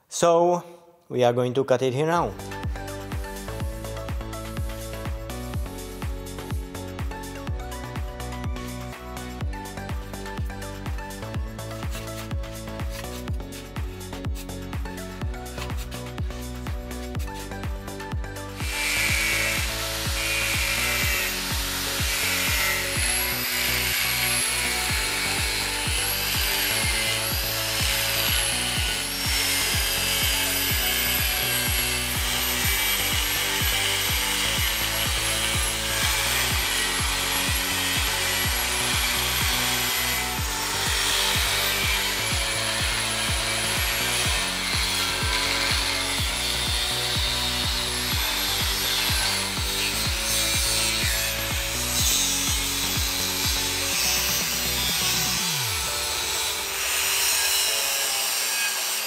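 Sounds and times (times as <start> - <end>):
background music with steady beat: 1.3 - 59.0
angle grinder cutting metal: 2.4 - 59.0.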